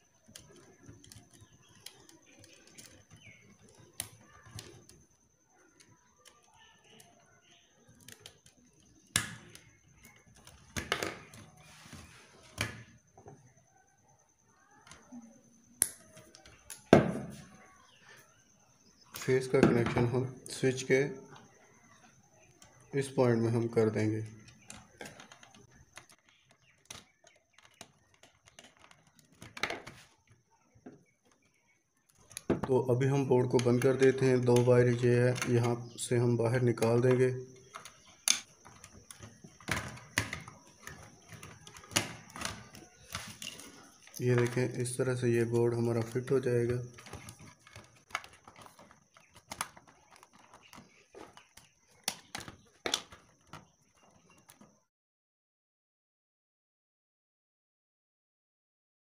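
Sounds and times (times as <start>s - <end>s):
wires rustling: 0.0s - 13.6s, 14.5s - 54.7s.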